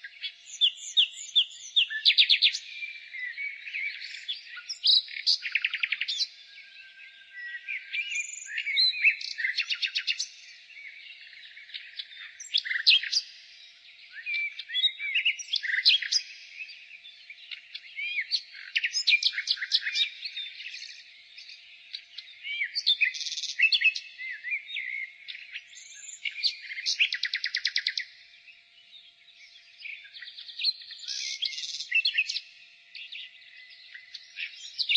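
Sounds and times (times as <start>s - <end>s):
nightingale singing: 0.0s - 34.9s.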